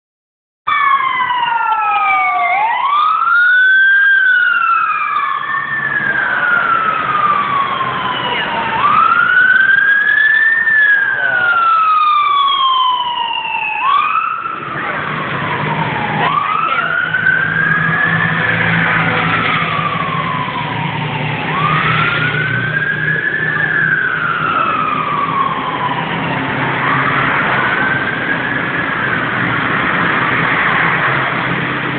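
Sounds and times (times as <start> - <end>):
police sirens wailing: 0.7 - 31.9.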